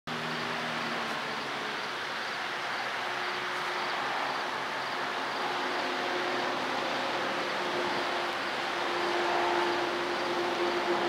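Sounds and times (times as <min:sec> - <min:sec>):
diesel locomotive engine: 0:00.1 - 0:11.0.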